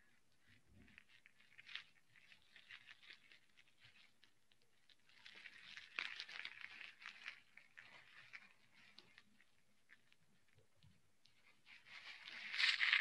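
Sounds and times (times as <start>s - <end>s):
faint scratchy rustling: 0.0s - 13.0s.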